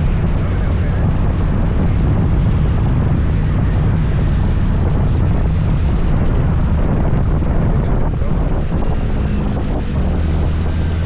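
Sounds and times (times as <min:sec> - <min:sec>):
scooter engine and road rumble: 0:00.0 - 0:11.0
wind rushing on microphone: 0:00.0 - 0:11.0.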